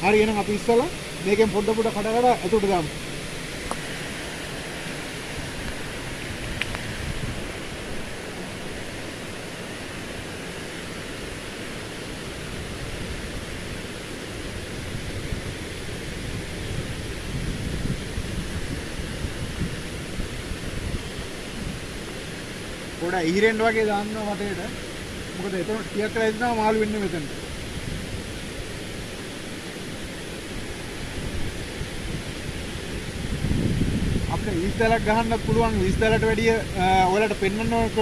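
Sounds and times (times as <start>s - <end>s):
wind on microphone: 0.0s - 23.2s, 26.8s - 38.0s.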